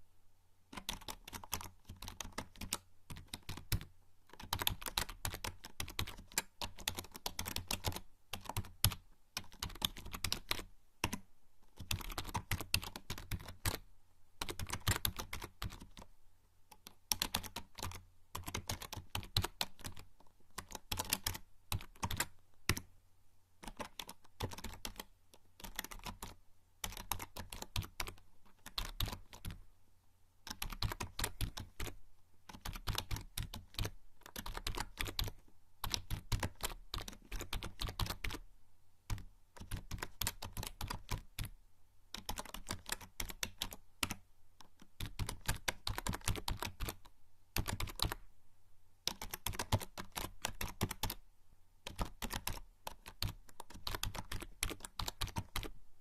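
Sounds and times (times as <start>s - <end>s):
keyboard typing: 0.7s - 13.8s, 14.4s - 16.1s, 16.7s - 22.9s, 23.6s - 29.6s, 30.5s - 38.4s, 39.1s - 48.2s, 49.0s - 51.2s, 51.8s - 55.7s.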